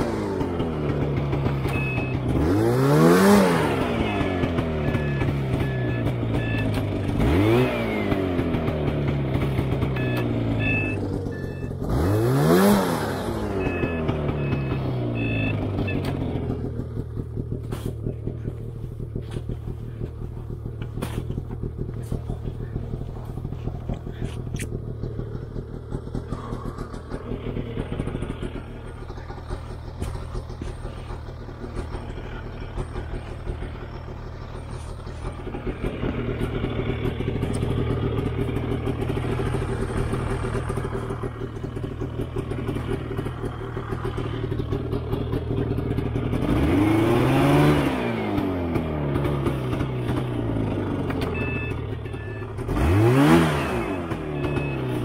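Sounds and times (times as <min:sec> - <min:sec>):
snowmobile engine idling and revving: 0:00.0 - 0:55.0.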